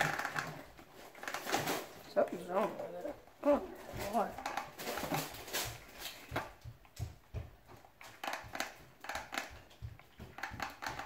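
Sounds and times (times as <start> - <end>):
object handling clicks and rustles: 0.0 - 11.0.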